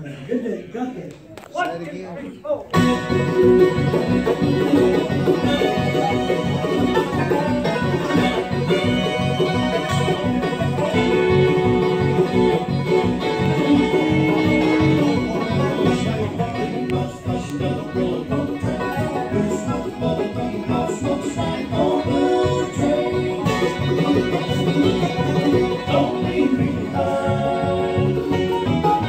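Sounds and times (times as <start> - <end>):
bluegrass band playing: 2.2 - 29.0.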